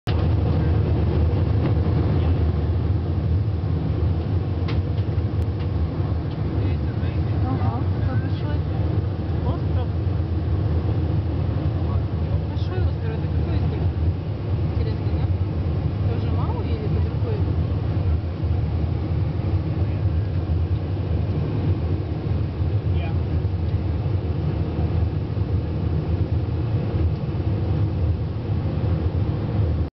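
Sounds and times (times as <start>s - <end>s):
airliner cabin engine rumble: 0.0s - 29.9s
rushing air: 0.1s - 29.9s.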